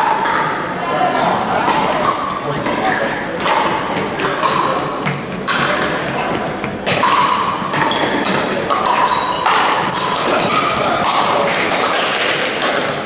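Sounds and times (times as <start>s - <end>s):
paddles hitting plastic ball: 1.6s - 13.0s.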